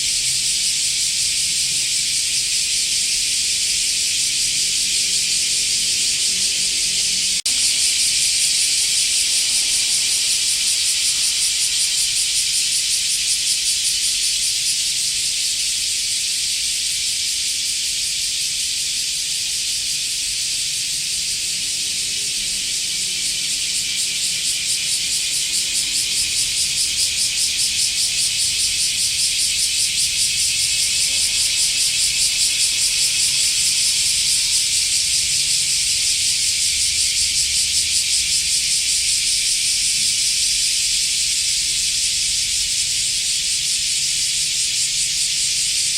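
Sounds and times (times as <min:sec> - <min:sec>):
cicada buzzing: 0:00.0 - 0:45.9.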